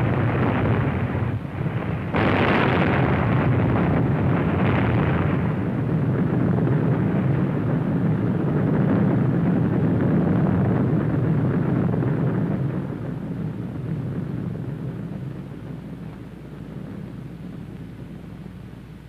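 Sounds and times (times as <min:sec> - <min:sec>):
explosion rumbling roar: 0:00.0 - 0:18.4.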